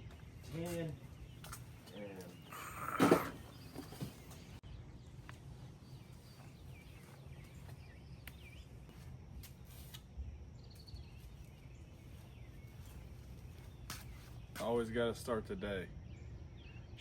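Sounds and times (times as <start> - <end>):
bird chirps: 0.0 - 9.0, 10.5 - 15.1, 15.9 - 17.0.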